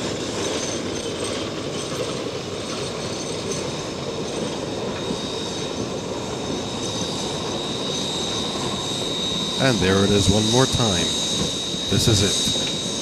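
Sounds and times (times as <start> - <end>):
train rumbling and clattering: 0.0 - 11.8.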